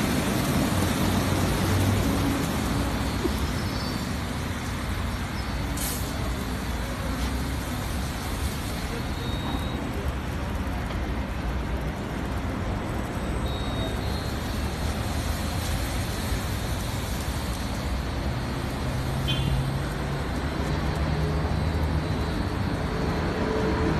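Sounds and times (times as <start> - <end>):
car wash brushes whirring: 0.0 - 23.9.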